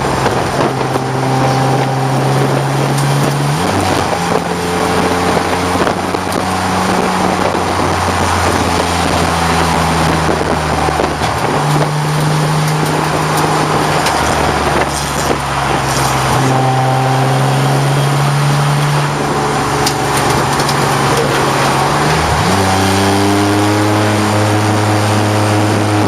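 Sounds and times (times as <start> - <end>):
car engine running hard: 0.0 - 26.0
wind and road noise: 0.0 - 26.0.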